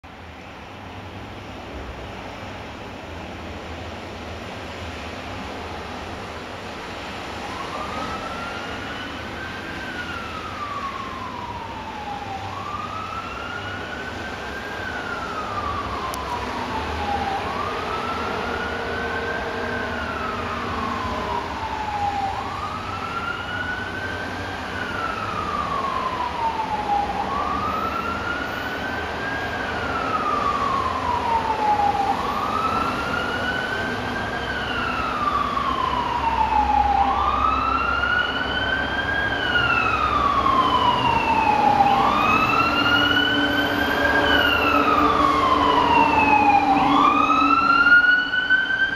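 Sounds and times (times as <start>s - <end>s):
emergency siren wailing: 4.7s - 48.9s
second siren: 6.9s - 48.9s.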